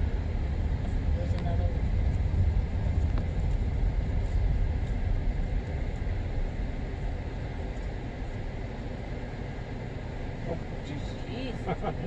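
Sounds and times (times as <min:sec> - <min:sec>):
vehicle and road rumble: 0:00.0 - 0:12.0.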